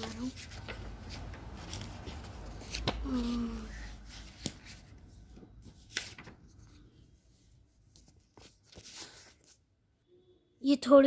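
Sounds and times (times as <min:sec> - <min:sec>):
soft rustling of paper: 0:00.0 - 0:09.8.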